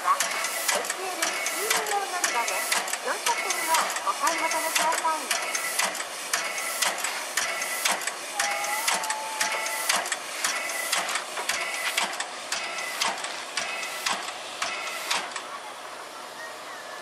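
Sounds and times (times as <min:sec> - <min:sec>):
steam locomotive chuffing: 0:00.0 - 0:16.3
steady steam hiss: 0:00.0 - 0:16.7.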